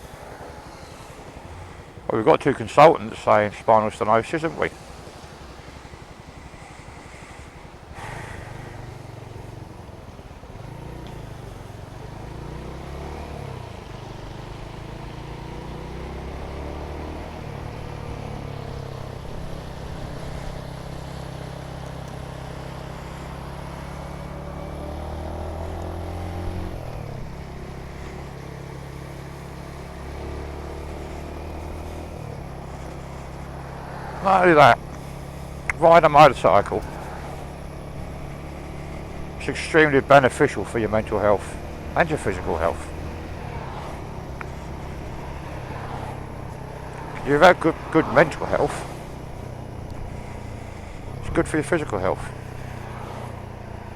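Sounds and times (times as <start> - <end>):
motorcycle engine: 0.0 - 53.9
road noise: 0.0 - 53.9.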